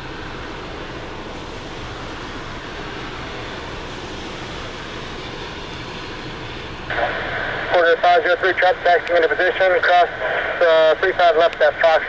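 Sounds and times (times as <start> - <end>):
airport background rumbling hiss: 0.0 - 12.0.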